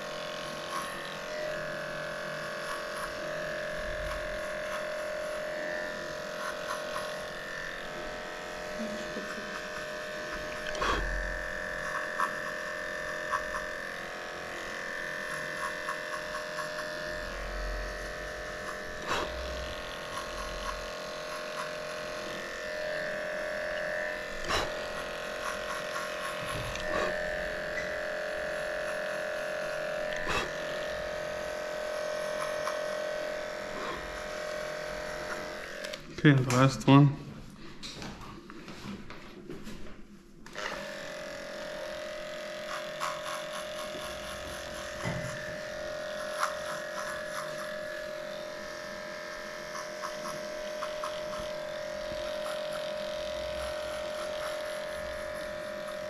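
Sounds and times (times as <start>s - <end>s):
pet clippers buzzing: 0.0s - 37.0s, 40.4s - 56.0s.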